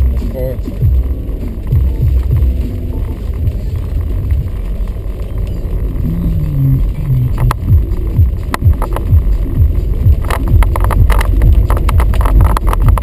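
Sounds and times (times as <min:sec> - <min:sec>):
car engine and road rumble: 0:00.0 - 0:13.0
raindrops tapping windshield: 0:00.0 - 0:13.0.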